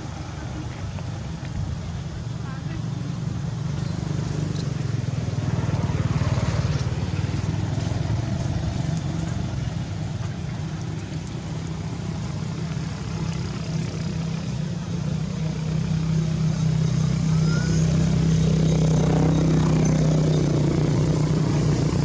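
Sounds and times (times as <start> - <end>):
low engine hum: 0.0 - 22.0
outdoor noise haze: 0.0 - 22.0.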